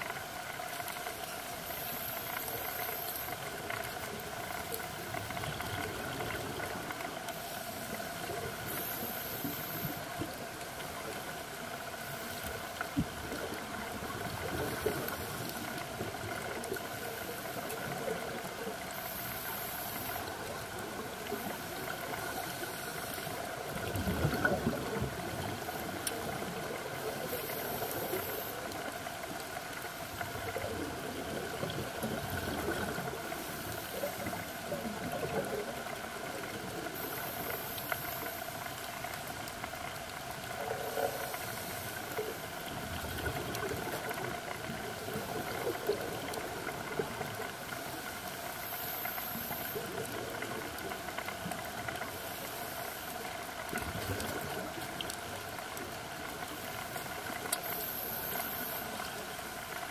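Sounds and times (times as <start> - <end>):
regulator bubbles gurgling: 0.0 - 59.9
underwater hiss and hum: 0.0 - 59.9.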